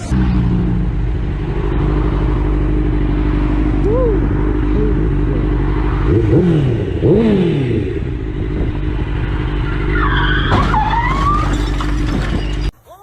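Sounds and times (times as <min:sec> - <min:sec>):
vehicle engine and road noise: 0:00.0 - 0:12.8.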